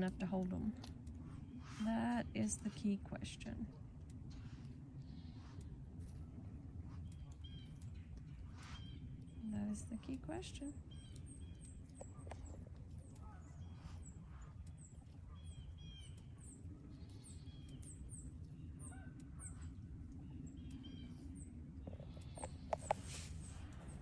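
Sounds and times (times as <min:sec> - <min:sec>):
lower bird calls: 0:00.0 - 0:24.0
steady low rumble: 0:00.0 - 0:24.0.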